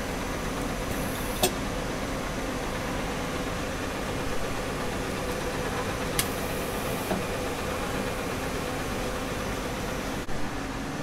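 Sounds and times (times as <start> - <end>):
machine mechanical hum: 0.0 - 11.0.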